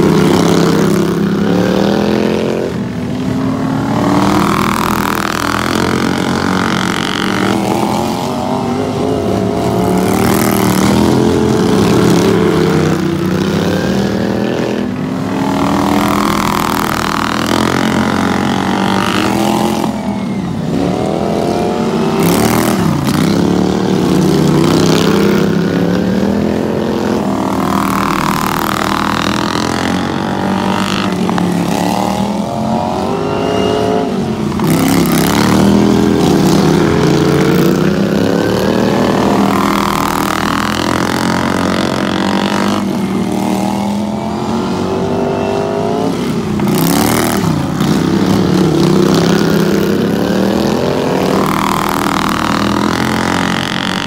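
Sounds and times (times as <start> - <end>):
racing lawn mower engines revving: 0.0 - 54.0.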